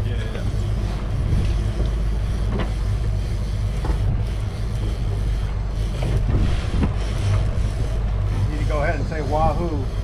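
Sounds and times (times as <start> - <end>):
boat engines droning: 0.0 - 10.0
wind: 0.0 - 10.0.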